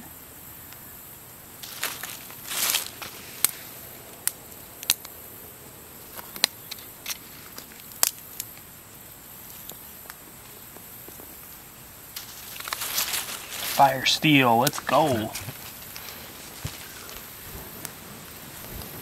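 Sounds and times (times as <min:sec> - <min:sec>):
dry leaves and twigs crunching: 0:01.6 - 0:05.2, 0:06.0 - 0:08.6, 0:09.4 - 0:19.0.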